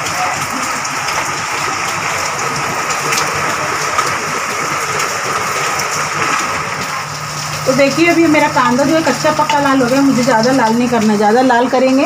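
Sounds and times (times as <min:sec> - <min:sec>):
drips on wet paving: 0:00.0 - 0:12.0
heavy rain: 0:00.0 - 0:12.0.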